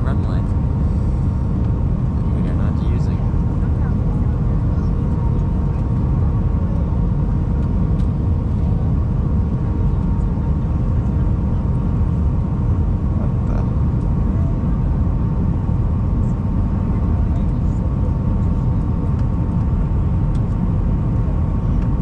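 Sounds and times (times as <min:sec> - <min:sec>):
engine and airflow rumble: 0:00.0 - 0:22.0
faint constant hum: 0:00.0 - 0:22.0.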